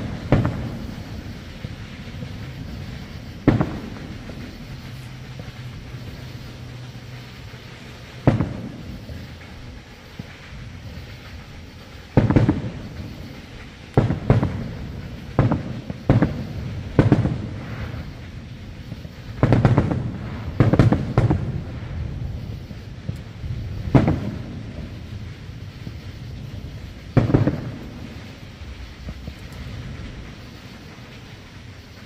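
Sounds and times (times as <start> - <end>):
firework shells booming: 0.0 - 32.0.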